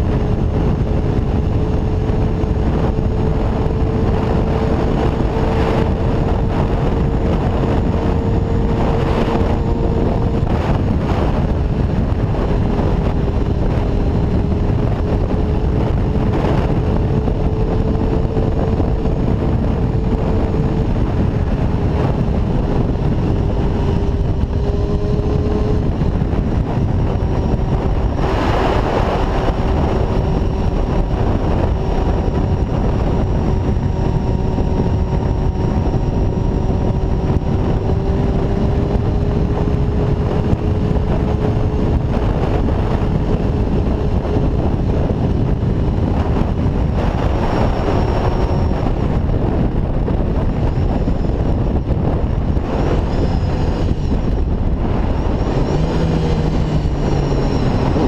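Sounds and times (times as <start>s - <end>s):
motorcycle engine at high revs: 0.0s - 58.0s
wind noise on microphone: 0.0s - 58.0s.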